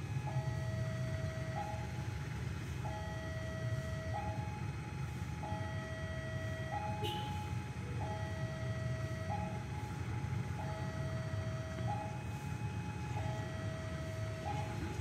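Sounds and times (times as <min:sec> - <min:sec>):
two-tone electronic alarm: 0:00.0 - 0:15.0.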